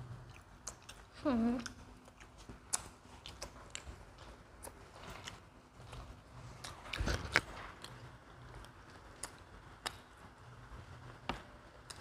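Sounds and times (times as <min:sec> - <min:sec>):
chewing pizza: 0:00.0 - 0:12.0.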